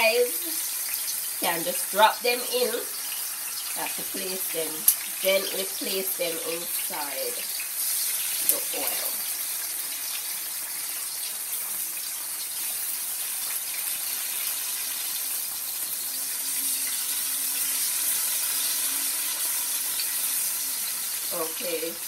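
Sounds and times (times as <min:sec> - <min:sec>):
potatoes frying in hot oil: 0:00.0 - 0:22.0.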